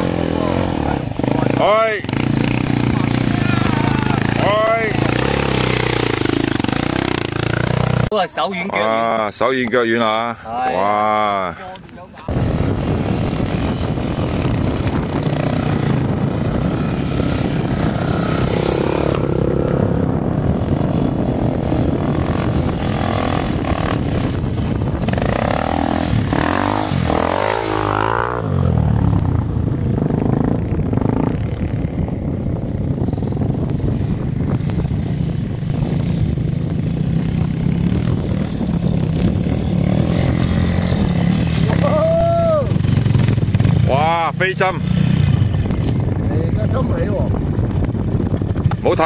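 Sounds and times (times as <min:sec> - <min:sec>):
dirt bike engines revving: 0:00.0 - 0:49.0.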